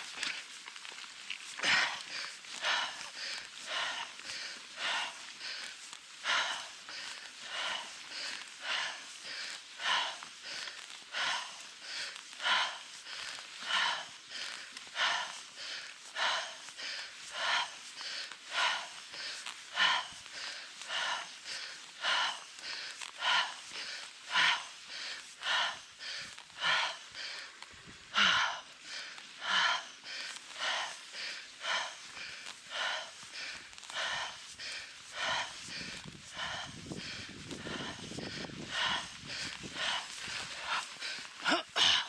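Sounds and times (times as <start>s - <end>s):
heavy rapid breathing: 0.0s - 42.0s.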